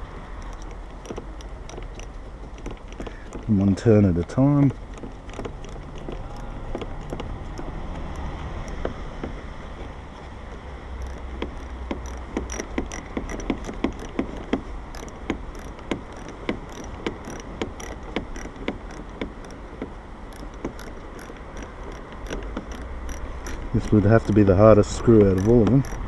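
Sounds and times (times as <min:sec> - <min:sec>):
ratchet wrench clicking: 0:00.3 - 0:03.6, 0:04.8 - 0:26.0.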